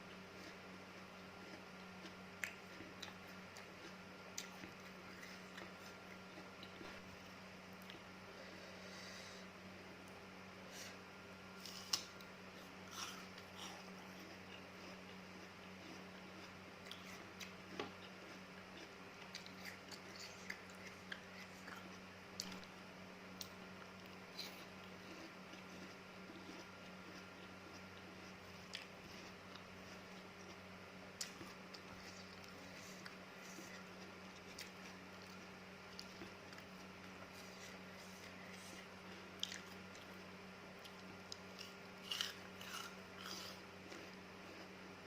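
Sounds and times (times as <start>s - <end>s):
chewing crisp fruit: 0.0s - 45.0s
faint steady hum: 0.0s - 45.0s.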